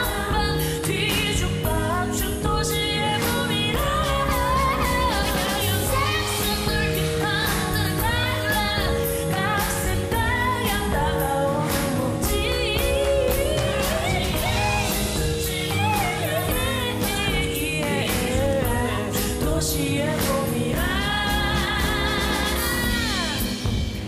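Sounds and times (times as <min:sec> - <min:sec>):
woman singing with vibrato: 0:00.0 - 0:23.9
band playing: 0:00.0 - 0:24.0.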